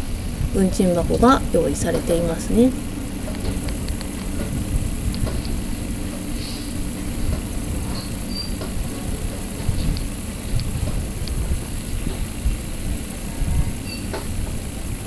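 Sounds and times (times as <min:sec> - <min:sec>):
steady diesel drone: 0:00.0 - 0:15.0
wheels rumbling on track: 0:00.0 - 0:15.0.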